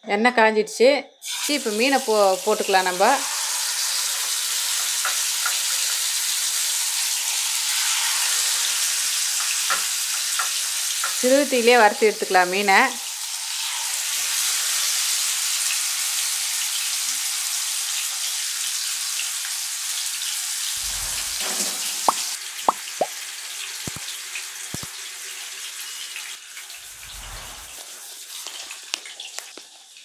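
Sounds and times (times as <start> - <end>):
oil sizzling in a pan: 1.2 - 30.0.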